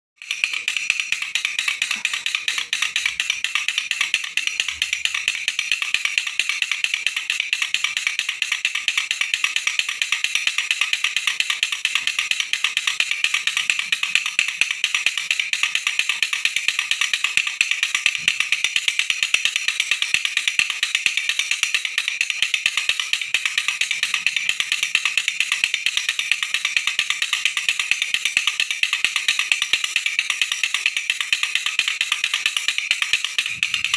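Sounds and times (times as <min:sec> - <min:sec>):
baby rattle shaking: 0:00.2 - 0:33.9.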